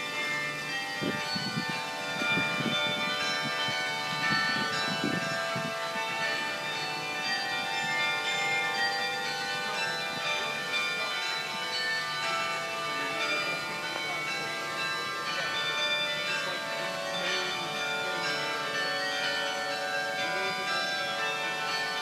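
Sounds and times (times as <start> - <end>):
carillon bells playing tune: 0.0 - 22.0.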